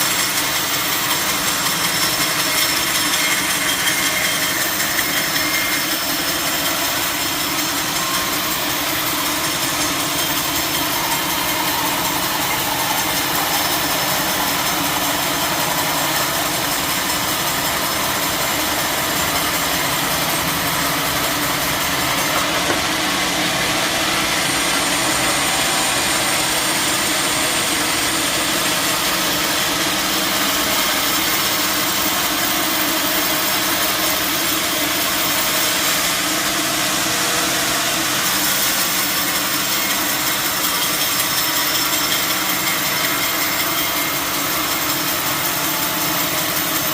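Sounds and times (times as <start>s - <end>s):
sawmill machinery drone: 0.0s - 46.9s.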